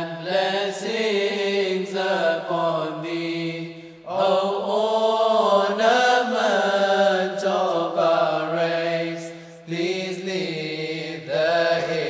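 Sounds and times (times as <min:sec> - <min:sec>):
voices singing devotional song: 0:00.0 - 0:12.0.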